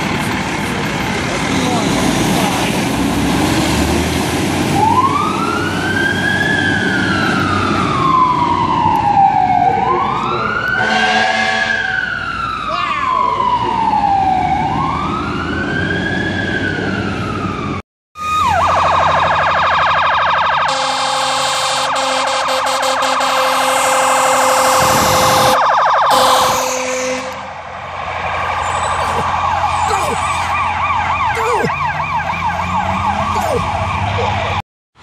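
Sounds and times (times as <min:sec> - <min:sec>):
wailing siren: 0:04.7 - 0:34.6
electronic siren yelp: 0:04.8 - 0:16.8, 0:17.4 - 0:27.3, 0:28.4 - 0:34.6.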